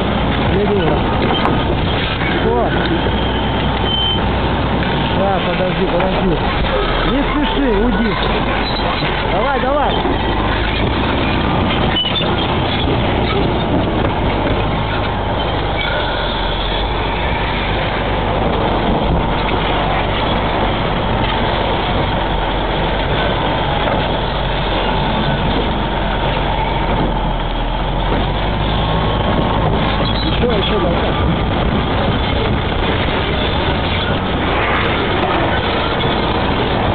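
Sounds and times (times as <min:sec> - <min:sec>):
heavy engine running: 0:00.0 - 0:36.9.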